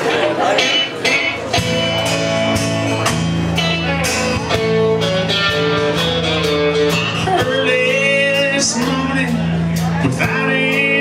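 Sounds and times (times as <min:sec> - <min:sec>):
guitars strumming: 0:00.0 - 0:11.0
steady drum beat: 0:00.2 - 0:11.0.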